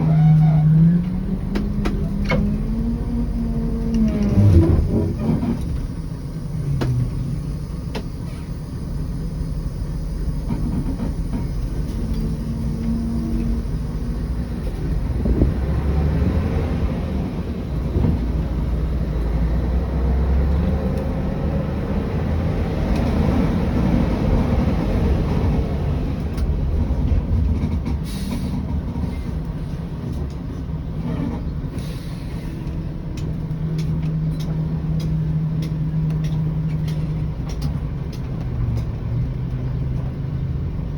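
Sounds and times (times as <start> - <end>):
bus diesel engine droning: 0.0 - 40.9
road and body noise: 0.0 - 40.9.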